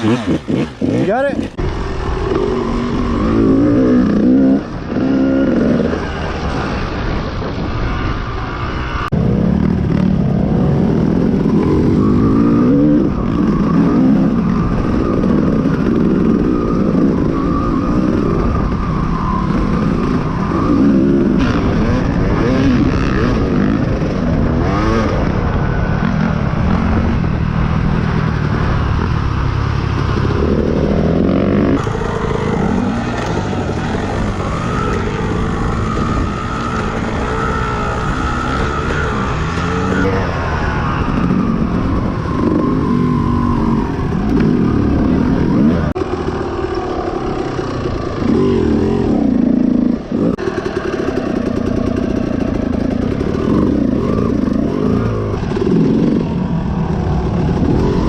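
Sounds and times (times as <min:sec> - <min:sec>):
dirt bike engine revving: 0:00.0 - 0:07.3, 0:07.9 - 0:58.0.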